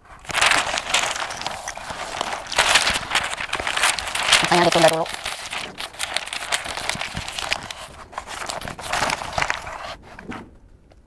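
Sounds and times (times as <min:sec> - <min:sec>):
newspaper rustling and crinkling: 0:00.0 - 0:10.3.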